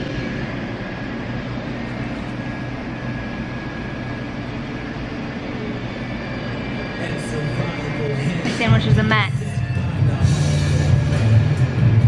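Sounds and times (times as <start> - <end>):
restaurant room noise: 0.0 - 12.0.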